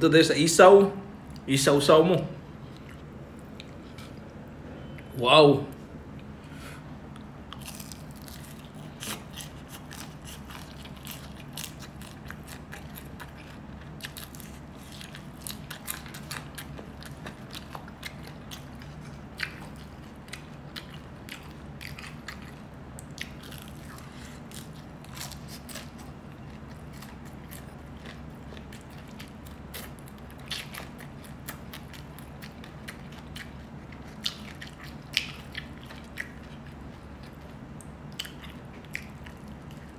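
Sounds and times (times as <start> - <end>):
steady low hum: 0.0 - 39.9
wet chewing and biting: 7.1 - 39.9.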